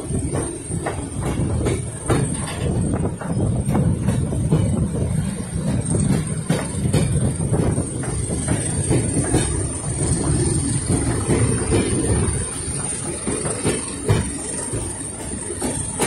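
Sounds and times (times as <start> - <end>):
clanks and knocks from train: 0.0 - 16.0
train wheels rumbling on rails: 0.0 - 16.0.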